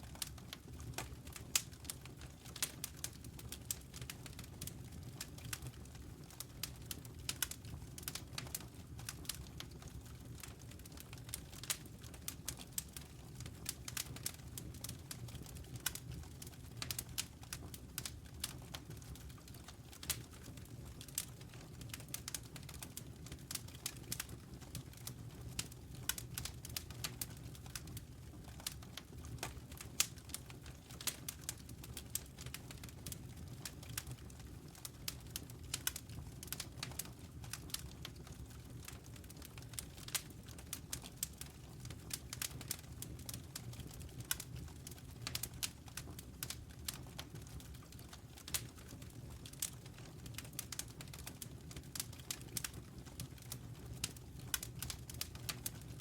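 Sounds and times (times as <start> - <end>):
low steady fire rumble: 0.0 - 56.0
campfire crackling: 5.1 - 55.8.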